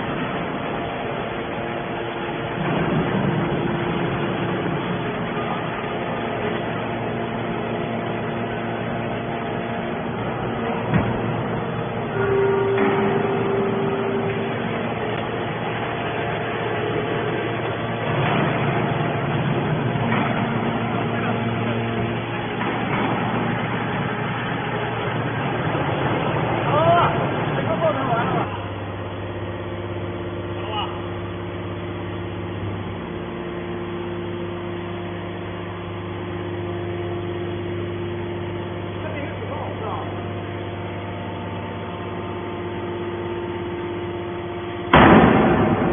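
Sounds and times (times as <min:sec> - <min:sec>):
hydraulic baler drone: 0:00.0 - 0:45.9.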